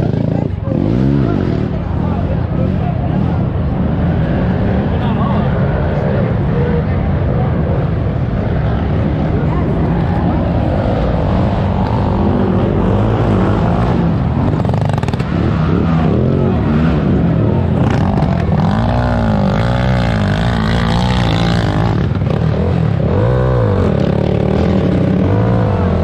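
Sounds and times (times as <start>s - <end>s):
quad engines revving: 0.0s - 26.0s.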